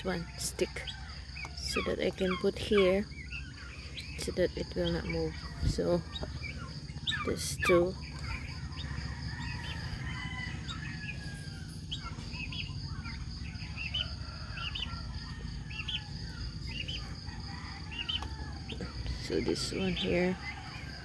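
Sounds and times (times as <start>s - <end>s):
birds chirping: 0.0s - 21.0s
high insect drone: 0.0s - 21.0s
low steady rumble: 0.0s - 21.0s.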